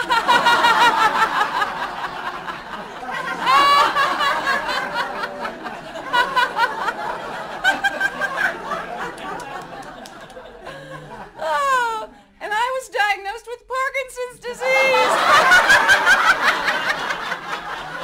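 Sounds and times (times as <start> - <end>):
people laughing: 0.0 - 12.1, 14.6 - 18.0.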